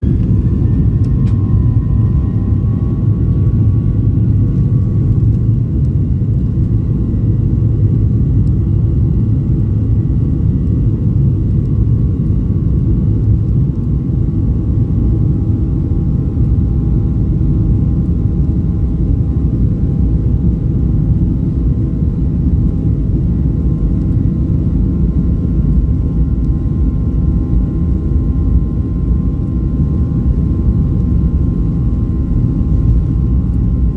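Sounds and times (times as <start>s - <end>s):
engine whine: 0.0s - 33.9s
jet engines rumbling in cabin: 0.0s - 33.9s.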